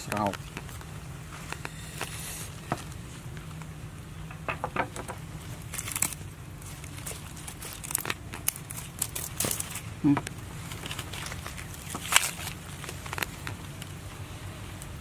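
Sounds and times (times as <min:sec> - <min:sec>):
crackles of handling fish on leaves: 0:00.0 - 0:15.0
low hum: 0:00.0 - 0:15.0.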